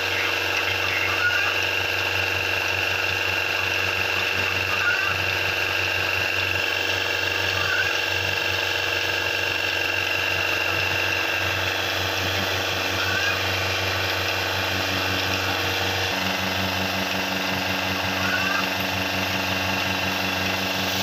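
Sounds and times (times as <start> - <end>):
vacuum pump motor humming: 0.0 - 21.0.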